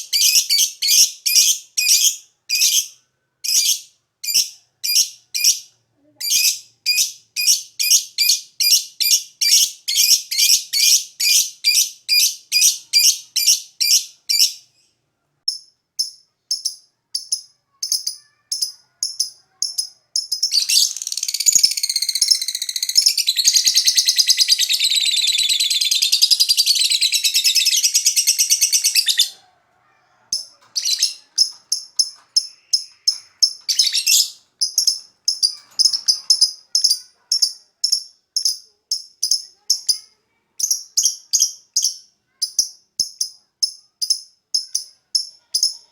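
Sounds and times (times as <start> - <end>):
lovebird chirping and trilling: 0.0 - 14.9, 15.5 - 29.4, 30.3 - 45.8.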